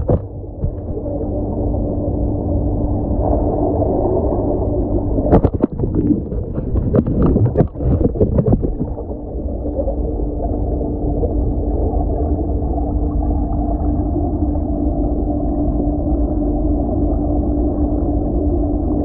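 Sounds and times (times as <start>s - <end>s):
bubbling clicks and crackles: 0.0s - 19.0s
faint steady hum: 0.0s - 19.0s
muffled underwater rumble: 0.0s - 19.0s.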